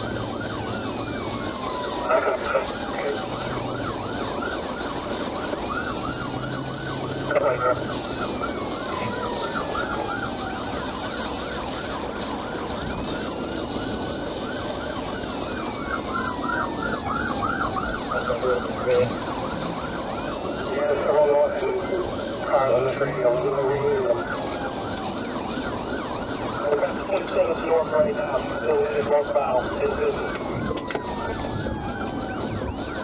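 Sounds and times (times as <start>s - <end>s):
police siren fast yelp: 0.0s - 33.0s
road and engine noise: 0.0s - 33.0s
wailing siren: 0.0s - 33.0s.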